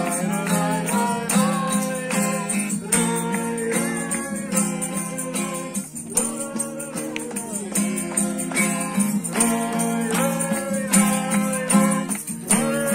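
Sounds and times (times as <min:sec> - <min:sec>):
acoustic guitar strumming: 0:00.0 - 0:12.9
group of people singing: 0:00.0 - 0:12.9.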